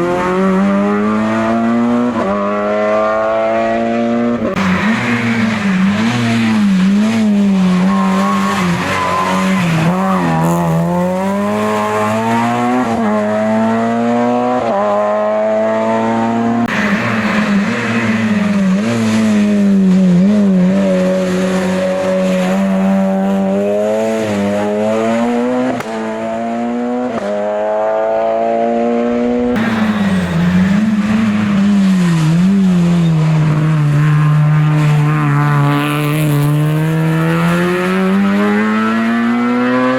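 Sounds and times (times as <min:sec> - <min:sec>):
race car engines accelerating: 0:00.0 - 0:39.9.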